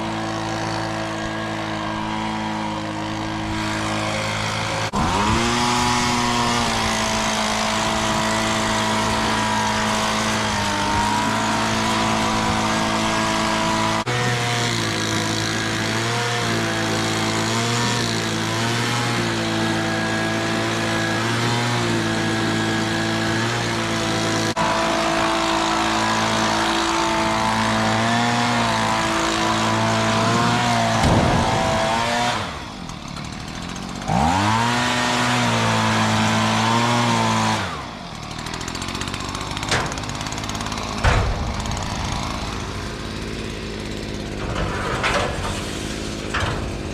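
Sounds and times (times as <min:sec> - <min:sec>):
combine harvester engine running: 0:00.0 - 0:46.9
machinery noise: 0:00.0 - 0:46.9.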